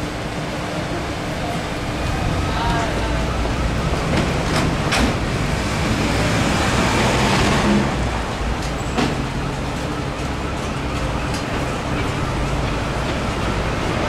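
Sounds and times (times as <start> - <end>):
road noise: 0.0 - 14.0
vehicle engines humming: 0.0 - 14.0.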